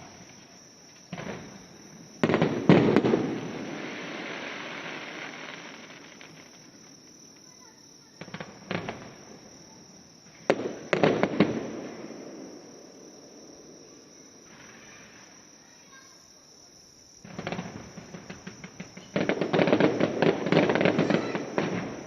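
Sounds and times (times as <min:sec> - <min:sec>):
fireworks bursting: 0:00.0 - 0:15.9, 0:17.2 - 0:22.0
crickets chirping: 0:00.0 - 0:22.0.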